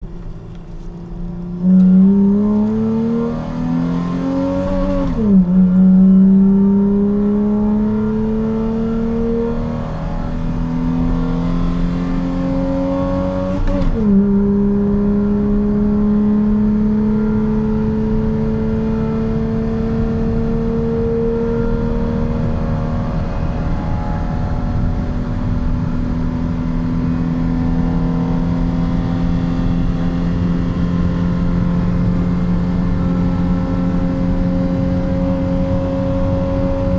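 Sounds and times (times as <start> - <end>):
pickup engine accelerating hard: 0.1 - 36.9.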